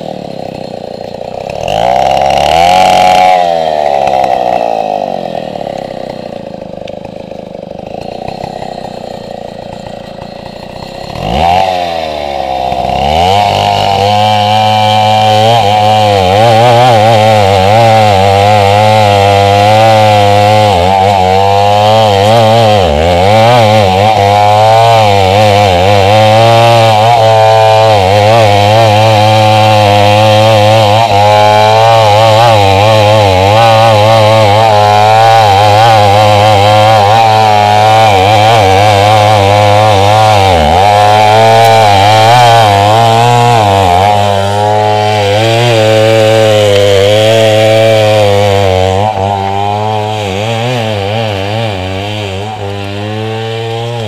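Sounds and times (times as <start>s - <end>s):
chainsaw running loudly: 0.0s - 54.0s.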